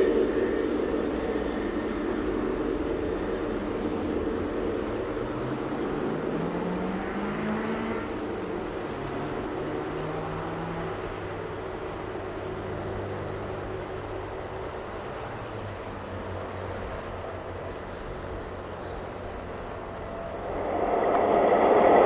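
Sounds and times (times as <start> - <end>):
model trains rolling on track: 0.0 - 22.0.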